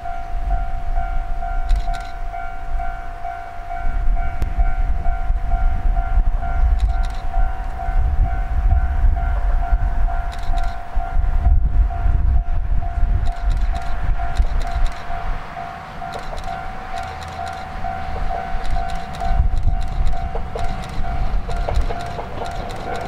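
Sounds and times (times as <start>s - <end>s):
level-crossing alarm bell ringing: 0.0s - 11.2s, 12.9s - 23.0s.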